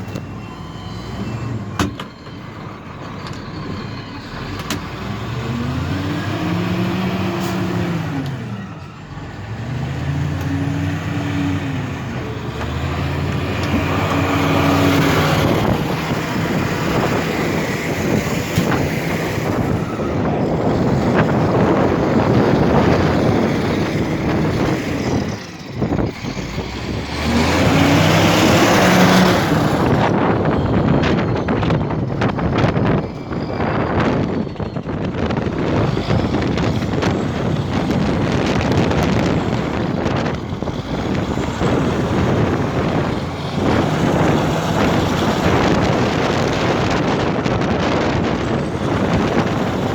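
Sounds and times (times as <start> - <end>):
heavy vehicle engine revving: 0.0 - 49.9
wind noise: 0.0 - 49.9.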